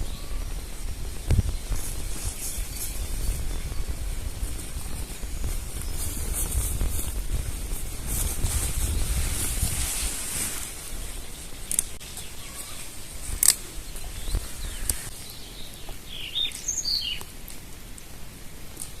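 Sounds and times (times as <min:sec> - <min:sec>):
birds chirping: 0:00.0 - 0:09.6, 0:10.4 - 0:17.4
steady hiss: 0:00.0 - 0:19.0.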